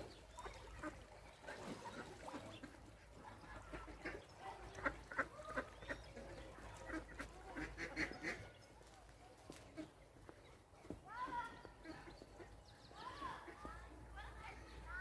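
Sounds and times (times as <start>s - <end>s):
ducks calling: 0.0s - 8.8s, 9.5s - 14.9s.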